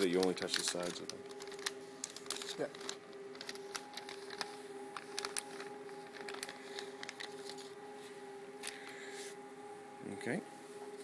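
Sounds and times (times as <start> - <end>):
plastic bag crinkling: 0.0 - 9.0
steady background hum: 0.0 - 11.0.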